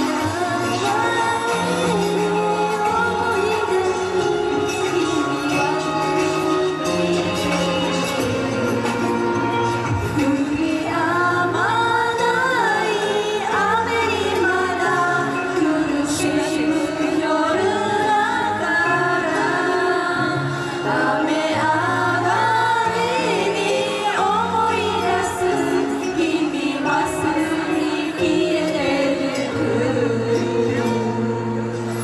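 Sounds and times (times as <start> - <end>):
group singing into microphones: 0.0 - 32.0
instrumental accompaniment: 0.0 - 32.0.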